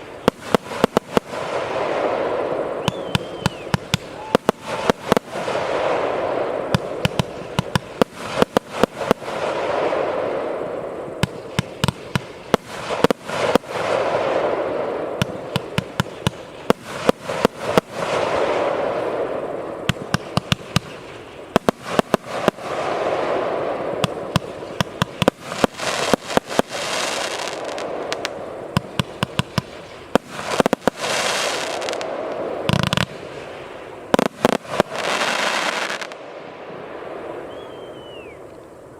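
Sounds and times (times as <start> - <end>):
firework shots: 0.0 - 38.5
rushing noise of firework bursts: 0.0 - 38.9.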